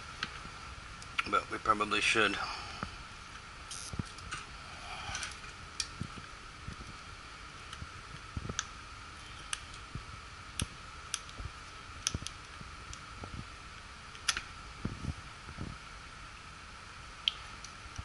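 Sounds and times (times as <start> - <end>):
faint steady high hum: 0.0 - 18.0.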